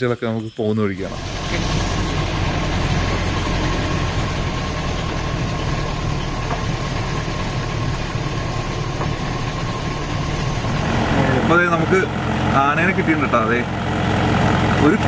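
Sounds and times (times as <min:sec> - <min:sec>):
car engine running: 0:01.0 - 0:15.0.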